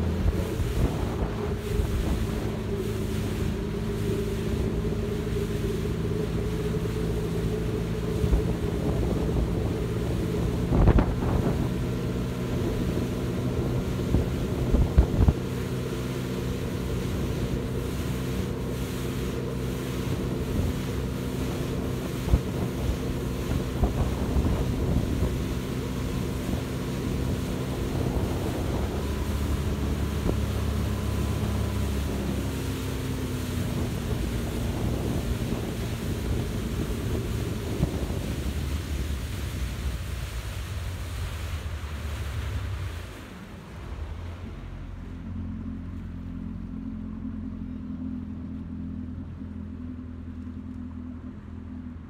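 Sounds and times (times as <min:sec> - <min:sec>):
wind buffeting microphone: 0:00.0 - 0:45.2
outboard engine drone: 0:00.0 - 0:52.0.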